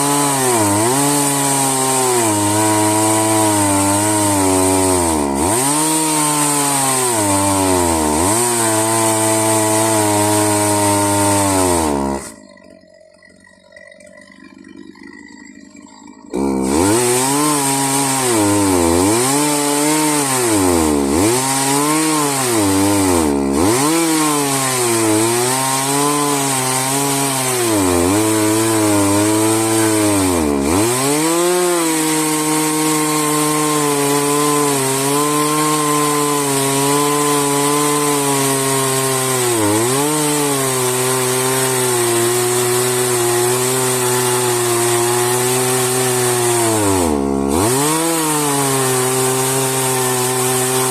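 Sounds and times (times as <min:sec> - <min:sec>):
chainsaw cutting log: 0:00.0 - 0:50.9.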